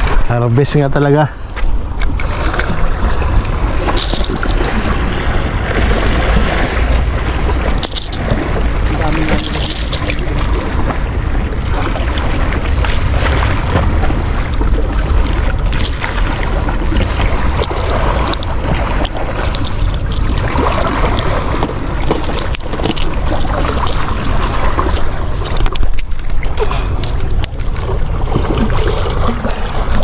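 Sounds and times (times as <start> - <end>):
sea waves: 0.0 - 30.0
wind buffeting microphone: 0.0 - 30.0.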